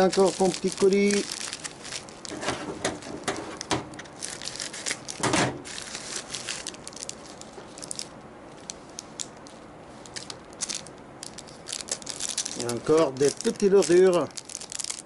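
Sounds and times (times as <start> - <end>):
plastic pouch crinkling and tearing: 0.0 - 2.4, 3.0 - 15.0.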